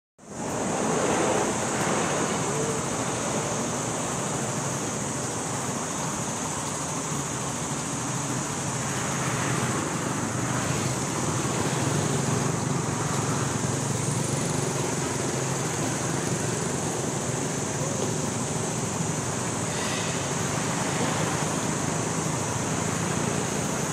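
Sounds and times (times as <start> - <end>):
constant high hiss: 0.2 - 23.9
low rumble of distant traffic: 0.2 - 23.9.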